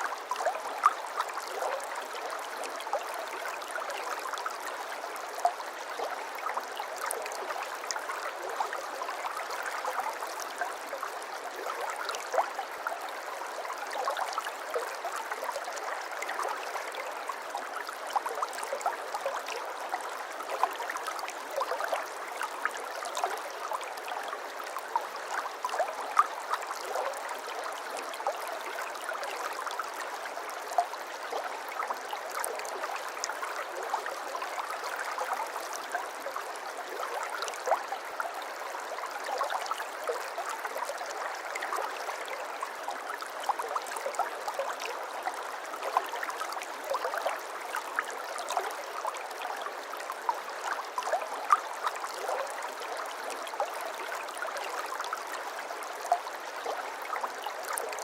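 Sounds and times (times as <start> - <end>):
stream babbling over stones: 0.0 - 58.0.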